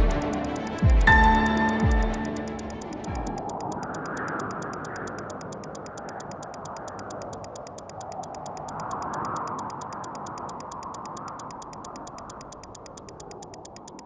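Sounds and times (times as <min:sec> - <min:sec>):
steady rushing noise: 0:00.0 - 0:14.0
watch ticking: 0:00.0 - 0:14.0.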